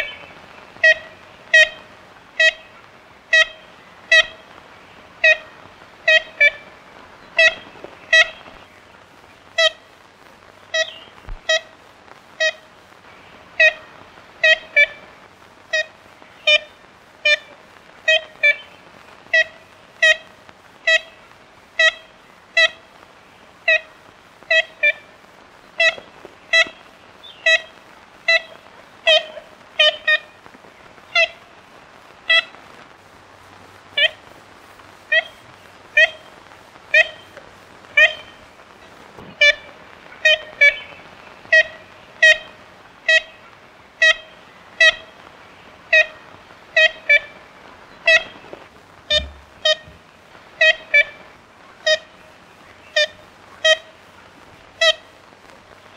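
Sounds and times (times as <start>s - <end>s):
woodpecker nasal calls: 0.0s - 10.0s, 10.7s - 11.8s, 12.4s - 31.6s, 32.2s - 32.8s, 33.9s - 34.4s, 35.0s - 55.9s
faint steady hiss: 0.0s - 55.9s.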